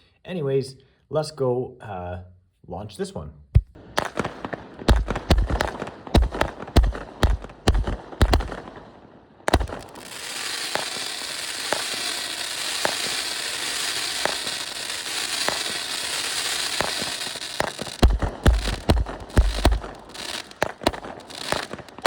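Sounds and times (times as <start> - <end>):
sharp crack: 3.6 - 22.0.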